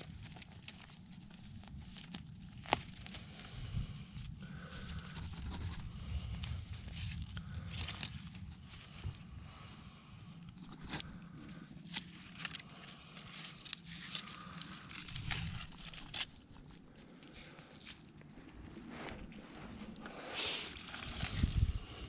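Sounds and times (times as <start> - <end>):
low rumble: 1.4 - 22.0.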